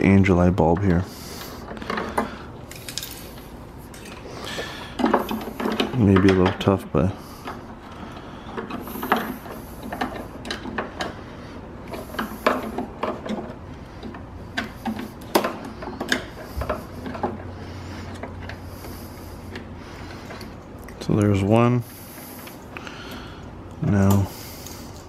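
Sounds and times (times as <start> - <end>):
clicks taps and rustling of wires: 0.0 - 6.8, 7.4 - 11.2, 11.8 - 21.7
low steady hum: 0.0 - 25.0.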